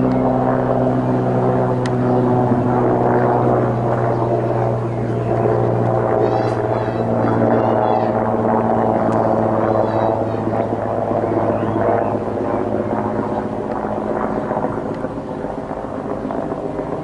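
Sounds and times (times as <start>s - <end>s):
helicopter flying overhead: 0.0s - 17.0s.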